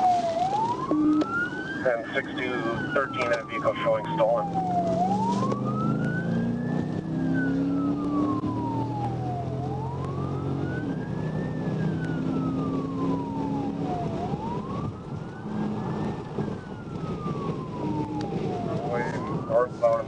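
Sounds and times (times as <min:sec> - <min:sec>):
low engine hum and road noise: 0:00.0 - 0:20.0
police siren wailing: 0:00.0 - 0:20.0.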